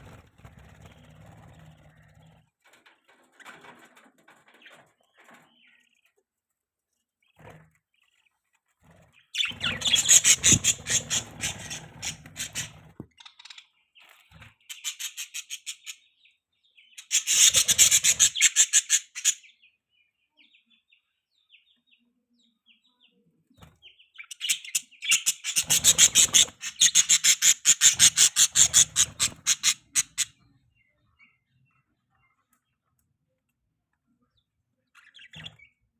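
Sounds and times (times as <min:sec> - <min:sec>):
budgies chirping: 0:00.0 - 0:06.2, 0:07.2 - 0:32.8, 0:34.2 - 0:35.9.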